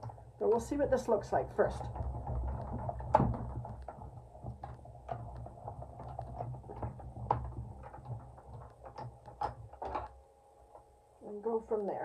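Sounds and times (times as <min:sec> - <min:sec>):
small clicks and ticks: 0:00.0 - 0:12.0.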